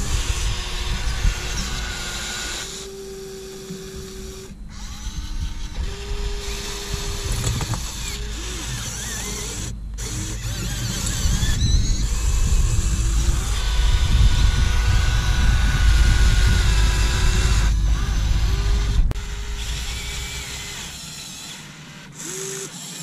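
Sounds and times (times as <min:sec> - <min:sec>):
toy excavator motors whining: 0:00.0 - 0:23.0.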